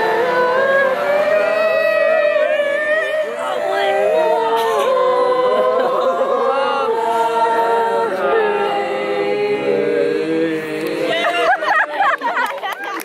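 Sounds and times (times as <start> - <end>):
group singing unaccompanied: 0.0 - 12.1.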